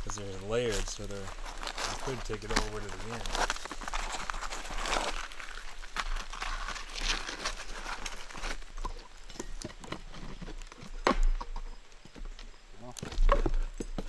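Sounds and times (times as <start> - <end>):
shingles scraping and tearing: 0.0 - 11.7
loud crunch: 0.0 - 12.1.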